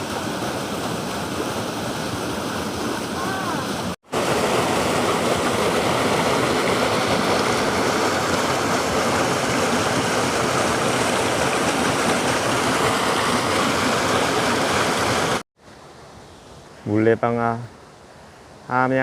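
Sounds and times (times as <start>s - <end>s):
water pouring off water wheel: 0.0s - 15.4s.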